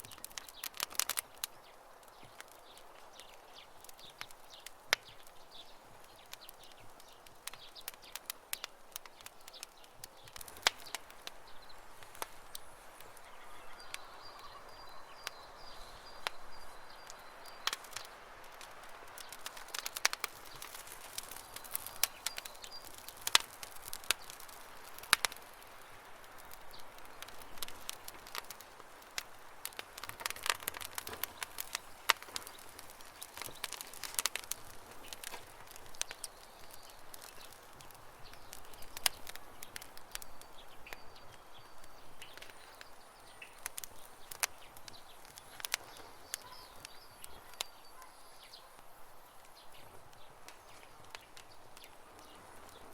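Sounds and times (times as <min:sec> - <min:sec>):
birds chirping: 0:00.0 - 0:52.9
campfire crackling and popping: 0:00.0 - 0:52.9.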